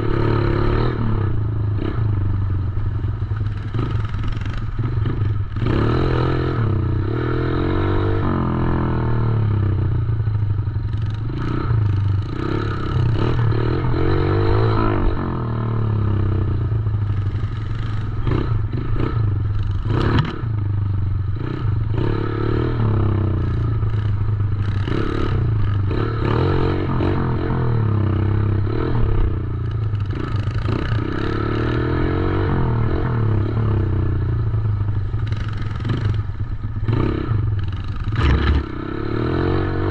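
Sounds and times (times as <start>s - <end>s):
dirt bike engine revving: 0.0s - 2.1s, 3.4s - 9.7s, 10.9s - 16.4s, 17.0s - 20.6s, 21.3s - 34.3s, 35.1s - 39.9s.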